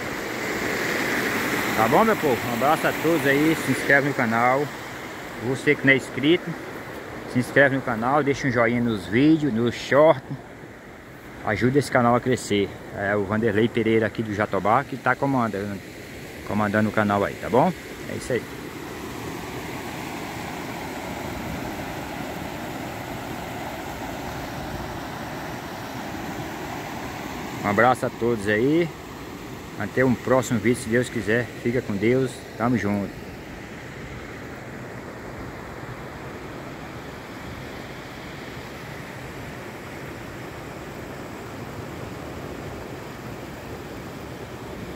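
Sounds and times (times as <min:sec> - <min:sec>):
water rushing over weir: 0:00.0 - 0:44.9.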